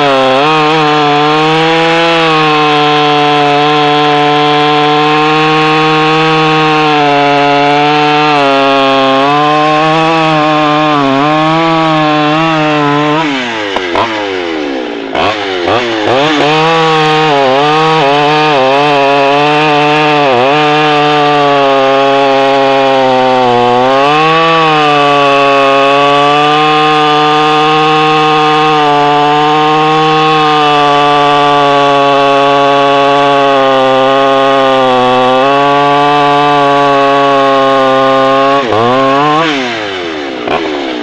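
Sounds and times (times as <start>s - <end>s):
chainsaw cutting through log: 0.0s - 41.0s.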